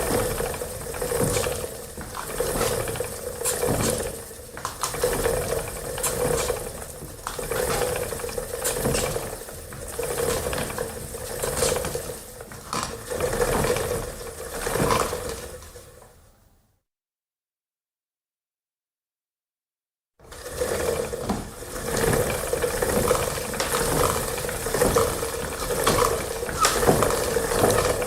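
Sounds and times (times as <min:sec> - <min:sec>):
spinning wheel whirring and creaking: 0:00.0 - 0:15.9, 0:20.2 - 0:28.0.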